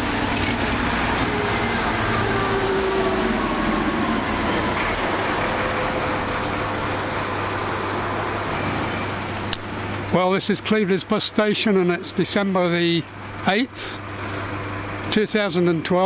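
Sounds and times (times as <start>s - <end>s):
bus engine whining: 0.0s - 16.0s.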